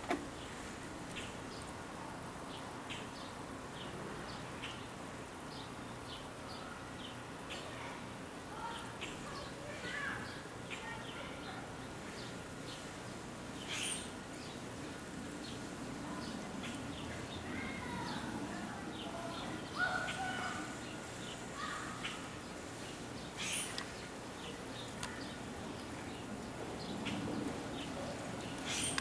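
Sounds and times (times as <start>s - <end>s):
outdoor background noise: 0.0s - 29.0s
birds chirping and calling: 0.3s - 1.7s, 2.5s - 7.9s, 8.6s - 29.0s.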